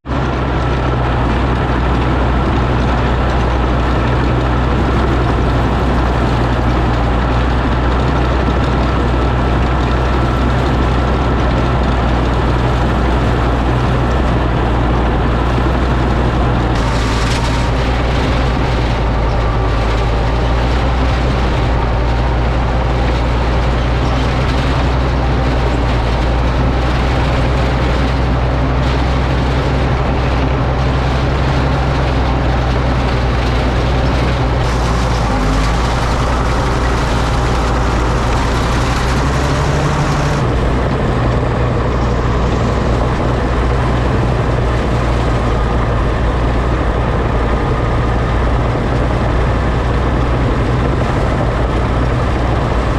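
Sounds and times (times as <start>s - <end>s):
crawler tractor engine running: 0.0s - 52.9s.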